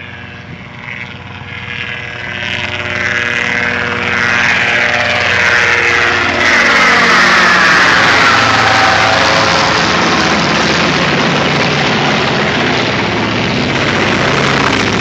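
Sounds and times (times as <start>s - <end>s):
airplane engines running: 0.0s - 15.0s
helicopter flying over: 0.0s - 15.0s.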